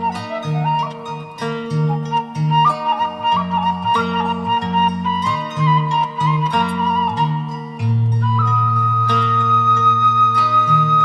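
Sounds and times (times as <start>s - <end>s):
bamboo flute melody: 0.0s - 11.0s.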